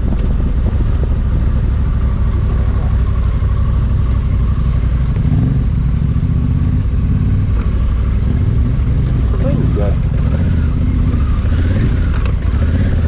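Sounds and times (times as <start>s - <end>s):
motorcycle engine running: 0.0s - 13.0s
noisy rush: 0.0s - 13.0s.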